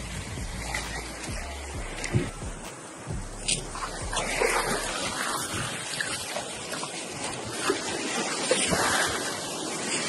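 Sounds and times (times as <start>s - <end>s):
surf washing and splashing: 0.0s - 10.0s.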